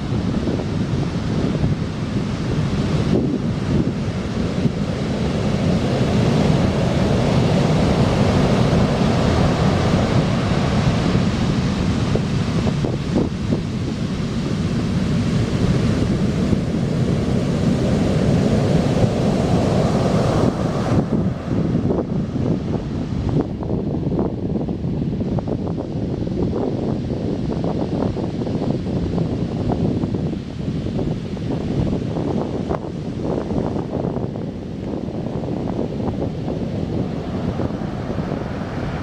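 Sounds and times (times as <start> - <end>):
heavy surf breaking: 0.0 - 23.8, 30.4 - 39.0
wind buffeting microphone: 0.0 - 39.0.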